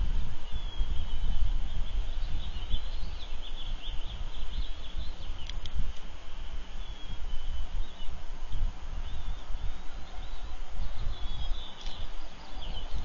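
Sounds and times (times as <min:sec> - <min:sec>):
wind rumbling on microphone: 0:00.0 - 0:13.0
faint high bird chirps: 0:00.4 - 0:13.0.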